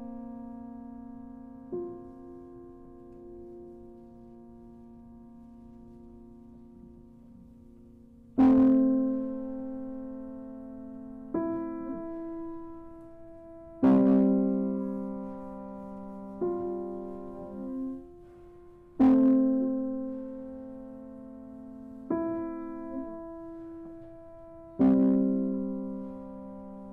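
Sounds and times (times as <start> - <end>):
grand piano chords: 0.0 - 26.9.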